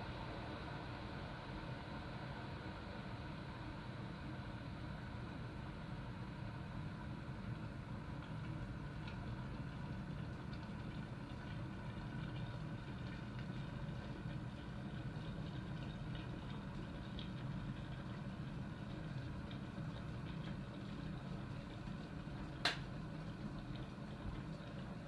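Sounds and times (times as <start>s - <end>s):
electric kettle heating water: 0.0s - 25.0s.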